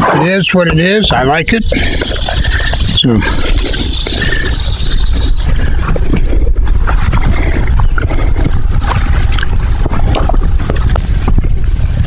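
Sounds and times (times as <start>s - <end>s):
high-pitched whine: 0.6s - 12.0s
wind buffeting microphone: 0.6s - 12.0s.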